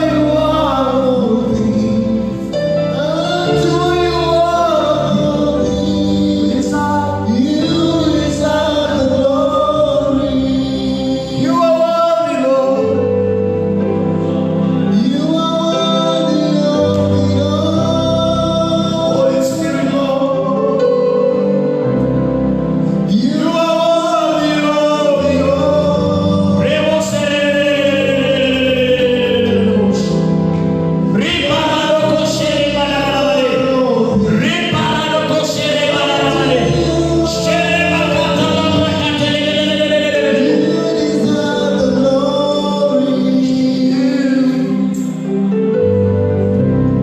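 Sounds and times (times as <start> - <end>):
gospel singing: 0.0 - 47.0
sustained keyboard chords: 0.0 - 47.0.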